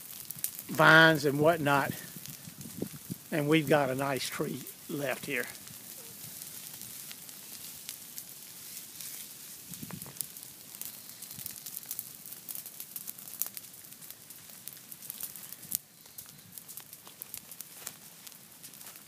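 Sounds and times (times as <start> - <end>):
fire crackling through brush: 0.0 - 19.0
fire hiss: 0.0 - 19.0.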